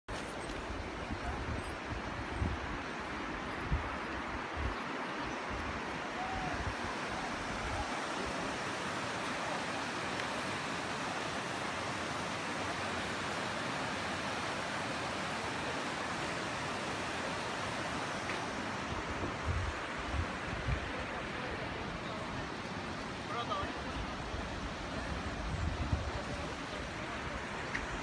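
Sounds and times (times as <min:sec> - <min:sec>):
river rushing over rocks: 0:00.1 - 0:28.0.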